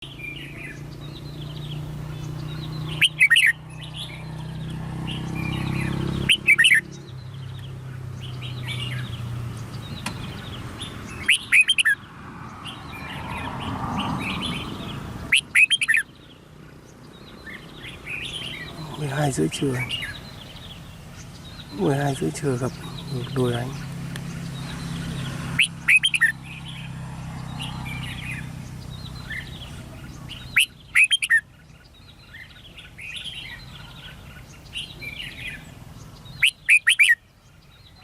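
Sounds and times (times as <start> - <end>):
background bird chirping: 0.0 - 38.0
bird chirping loudly: 0.0 - 38.0.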